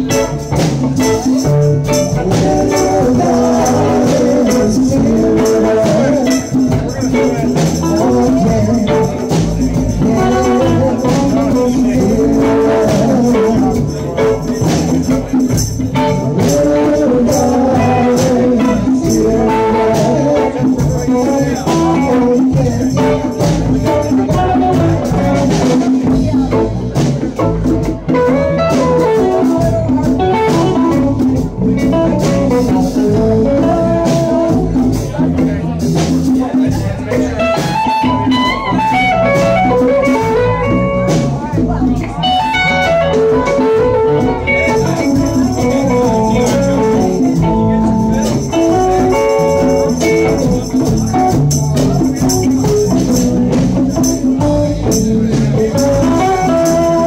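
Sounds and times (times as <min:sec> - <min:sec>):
blues-rock band playing: 0:00.0 - 0:57.0
electric guitar lead melody: 0:00.0 - 0:57.0.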